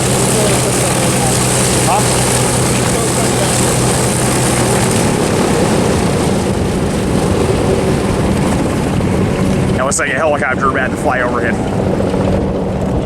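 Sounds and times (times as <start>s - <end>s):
propeller plane engine running: 0.0s - 13.0s.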